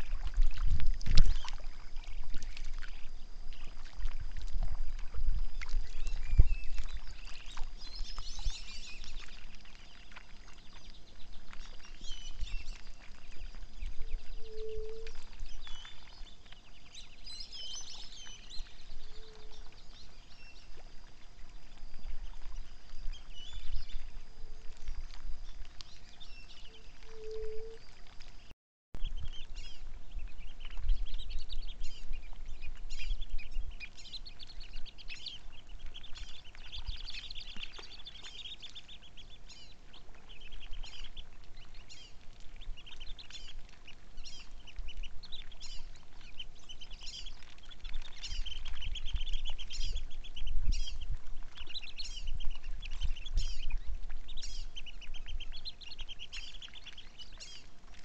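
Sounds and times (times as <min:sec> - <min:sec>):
wind rumble on microphone: 0:00.0 - 0:28.2, 0:29.0 - 0:58.0.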